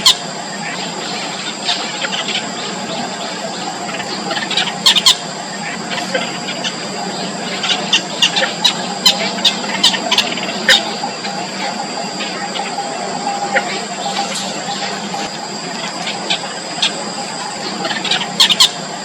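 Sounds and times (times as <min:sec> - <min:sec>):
nestlings begging peeps: 0:00.0 - 0:19.0.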